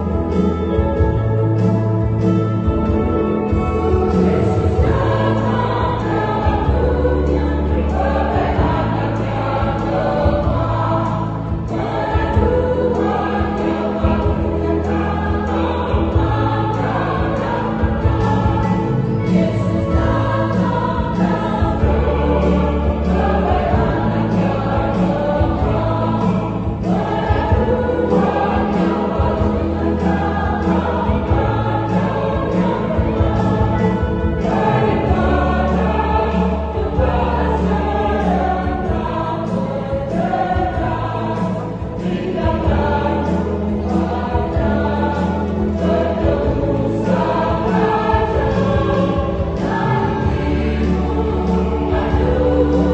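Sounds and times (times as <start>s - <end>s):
church choir singing: 0.0s - 52.9s.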